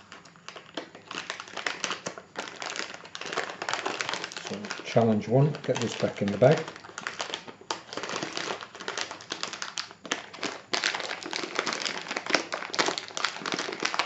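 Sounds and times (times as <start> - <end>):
bag crinkling and rustling: 0.0 - 14.0.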